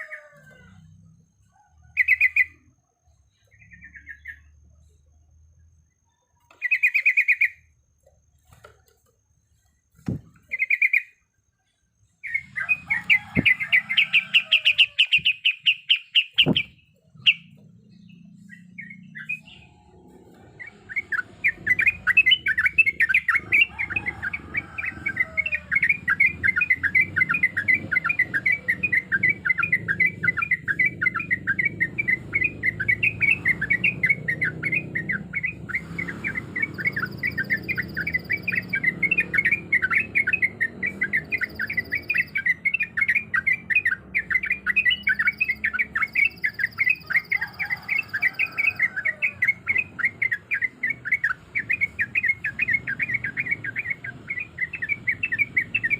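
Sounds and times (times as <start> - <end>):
bird chirping song: 0.0 - 55.9.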